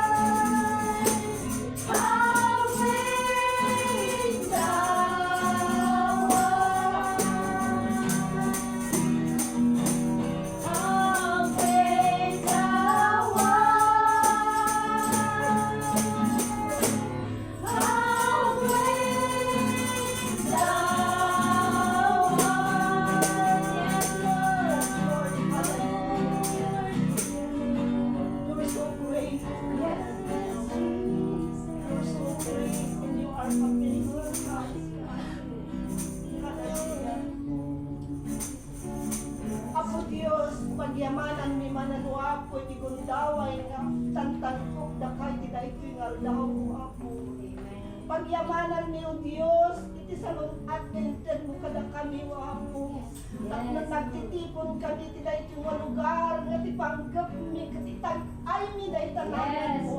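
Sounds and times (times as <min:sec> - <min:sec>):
voices singing worship song: 0:00.0 - 0:37.5, 0:38.3 - 0:59.9
tambourine shaking: 0:00.0 - 0:59.9.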